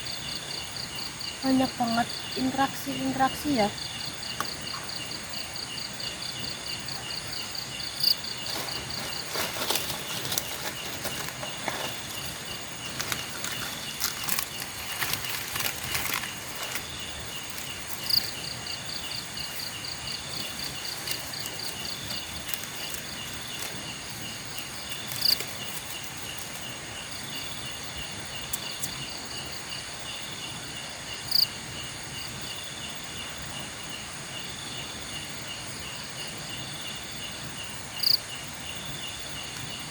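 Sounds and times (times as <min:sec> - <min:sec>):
background hiss: 0:00.0 - 0:39.9
night insects chirping: 0:00.0 - 0:39.9.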